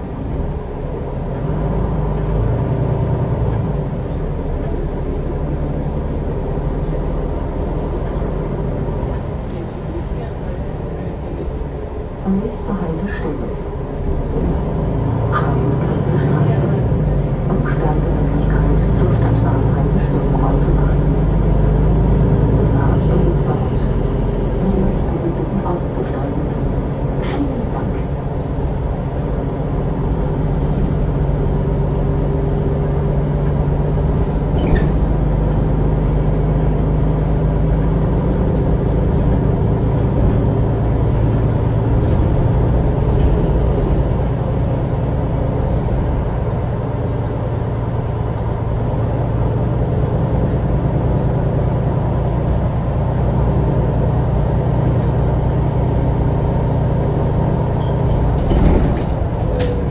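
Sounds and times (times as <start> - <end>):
bus engine hum: 0.0 - 59.9
road noise: 0.0 - 59.9.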